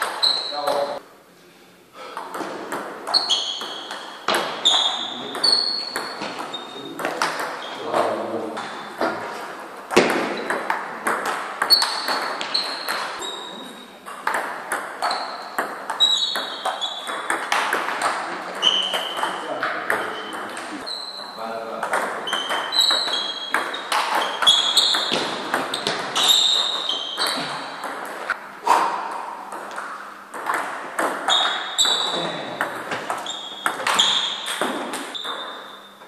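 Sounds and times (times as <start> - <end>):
ping pong ball on bats and table: 0.0 - 1.0, 2.1 - 35.9.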